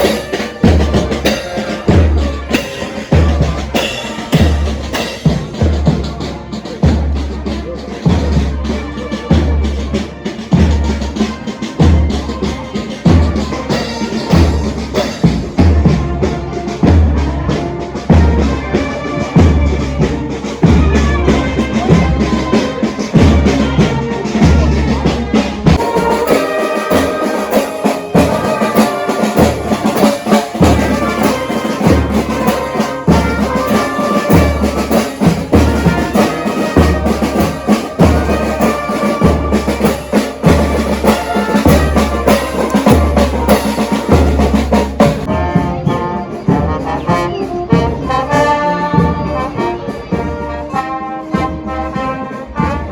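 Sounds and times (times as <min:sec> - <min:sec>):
marching band playing: 0:00.0 - 0:52.9.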